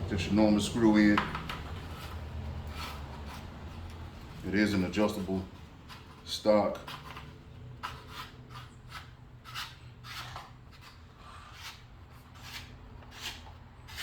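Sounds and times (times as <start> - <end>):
threaded tube rasping scrapes: 1.4 - 14.0.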